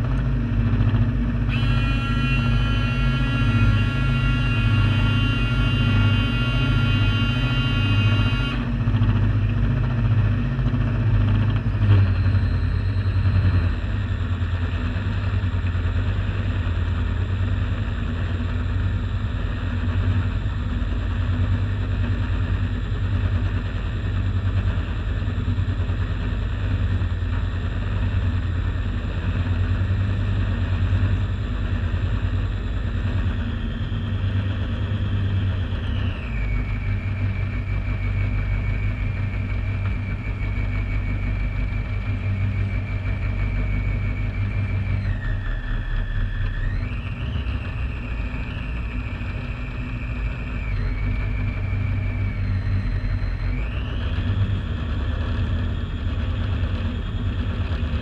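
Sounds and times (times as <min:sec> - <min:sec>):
model boat motor hum: 0:00.0 - 0:58.0
thin high whine: 0:00.0 - 0:58.0.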